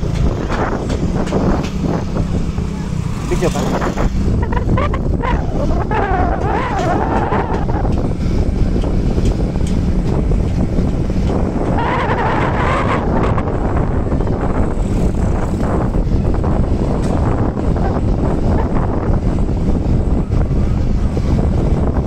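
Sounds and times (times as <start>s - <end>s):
vehicle rumbling along road: 0.0s - 22.0s
wind buffeting microphone: 0.0s - 22.0s.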